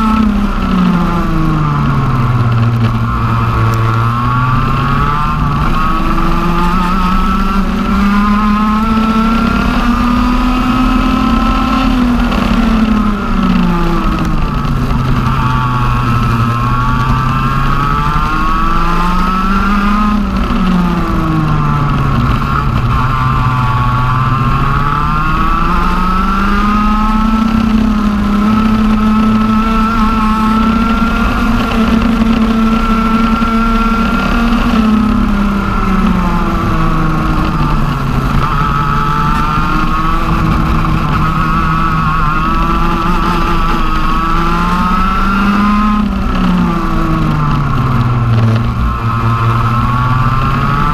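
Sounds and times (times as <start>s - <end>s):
kart engine revving: 0.0s - 50.9s.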